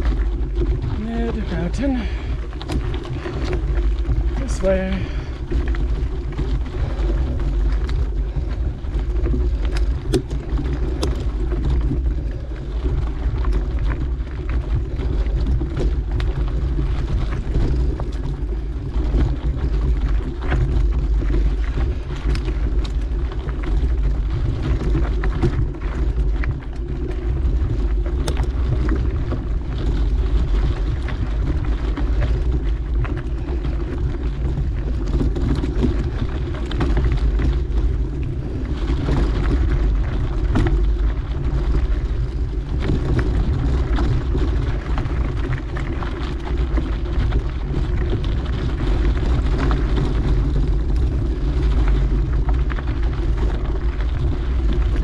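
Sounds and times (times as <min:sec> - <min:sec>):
bike tyres rolling on dirt: 0:00.0 - 0:55.0
sharp clicks and rattles: 0:00.0 - 0:55.0
wind on microphone: 0:00.0 - 0:55.0.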